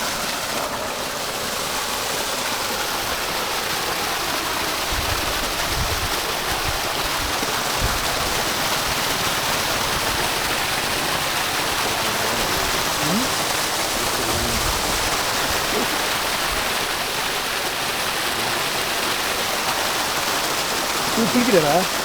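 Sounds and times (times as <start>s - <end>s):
water rushing and splashing: 0.0s - 22.0s.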